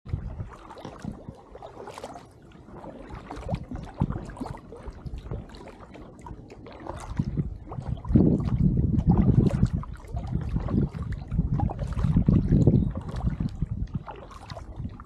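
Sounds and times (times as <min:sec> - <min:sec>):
wind rumble on microphone: 0:00.0 - 0:15.0
kayak paddle strokes splashing: 0:00.1 - 0:15.0
water drips and splashes: 0:00.1 - 0:15.0.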